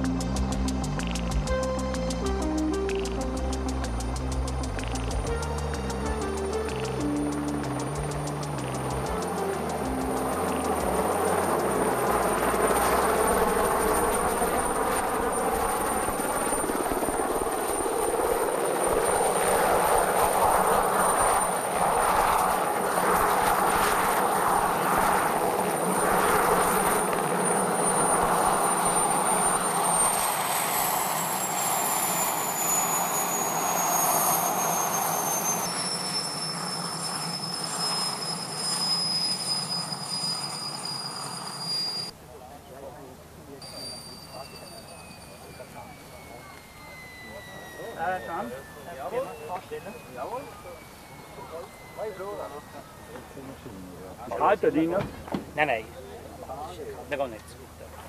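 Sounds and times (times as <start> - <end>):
helicopter turbine whine and rotor: 0.0 - 58.0.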